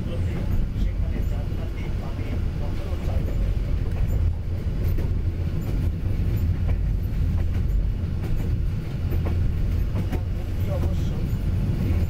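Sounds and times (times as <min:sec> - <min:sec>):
train wheels low rumble: 0:00.0 - 0:12.0.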